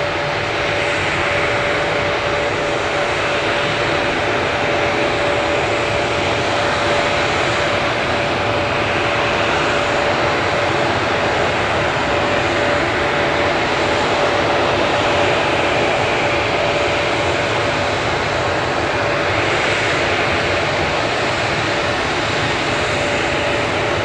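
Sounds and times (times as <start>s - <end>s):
constant engine whine: 0.0s - 24.0s
jet engines idling: 0.0s - 24.0s.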